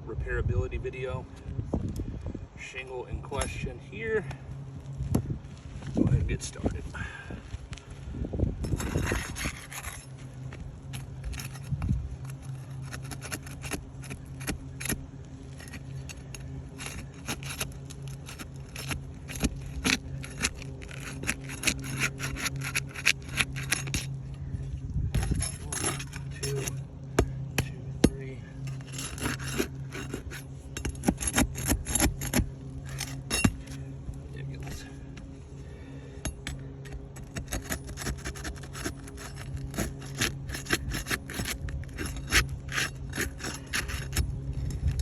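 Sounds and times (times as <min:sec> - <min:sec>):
steady low hum: 0:00.0 - 0:45.0
roofing shingle scraping: 0:08.6 - 0:45.0.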